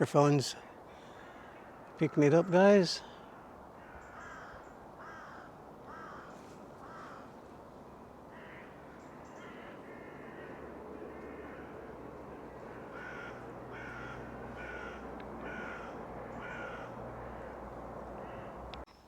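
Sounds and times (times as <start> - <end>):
faint repeated bird calls: 0.0 - 19.0.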